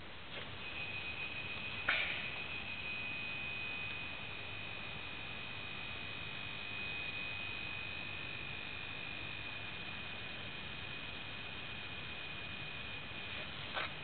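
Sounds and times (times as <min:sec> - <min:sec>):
faint mains hum: 0:00.0 - 0:14.0
lamp ballast high-pitched whine: 0:00.0 - 0:14.0.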